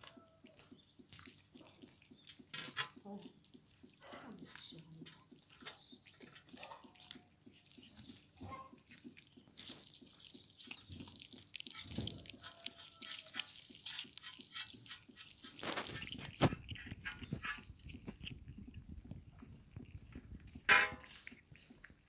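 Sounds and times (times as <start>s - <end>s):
kittens chewing wetly: 0.0s - 22.0s.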